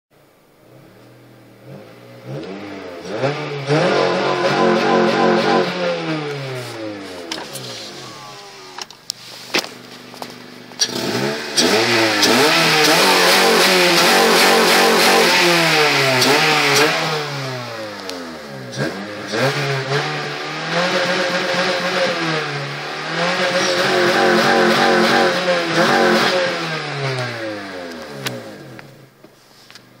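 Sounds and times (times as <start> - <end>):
car engine revving to limiter: 0.5 - 29.2.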